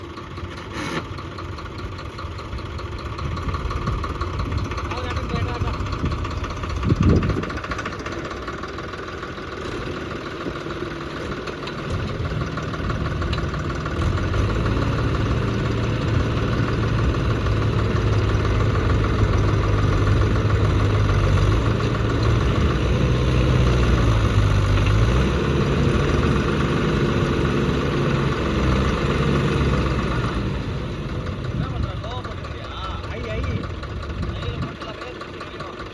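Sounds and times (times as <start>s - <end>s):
tractor diesel engine revving: 0.0s - 35.9s.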